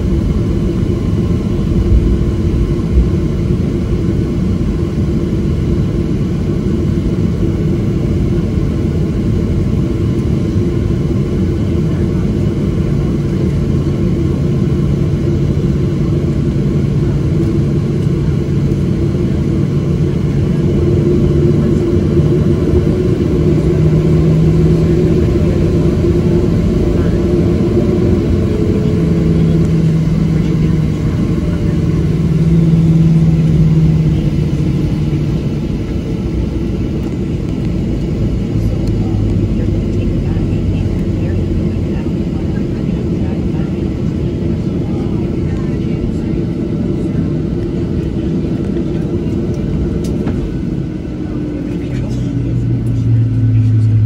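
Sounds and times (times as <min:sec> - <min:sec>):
airplane cabin rumble: 0:00.0 - 0:54.0
jet engine hum: 0:00.0 - 0:54.0.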